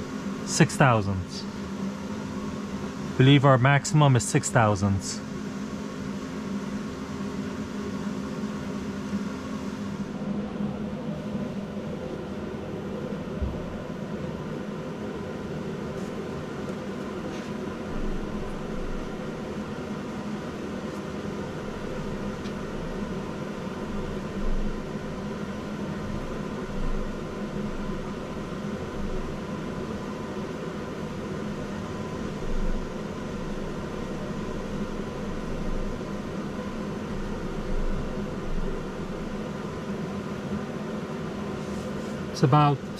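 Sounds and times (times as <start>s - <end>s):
machinery humming: 0.0s - 42.9s.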